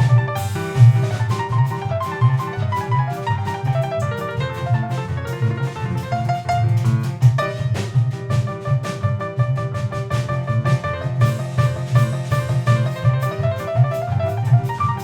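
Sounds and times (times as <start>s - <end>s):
drum kit and cymbals: 0.0s - 15.0s
piano runs: 0.0s - 15.0s
walking double bass: 0.0s - 15.0s.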